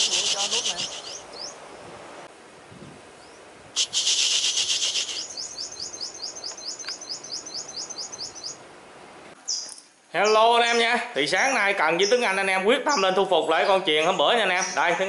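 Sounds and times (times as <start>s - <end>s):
bird chirping: 0.0s - 1.9s, 3.2s - 8.6s, 9.4s - 10.8s, 11.4s - 15.0s.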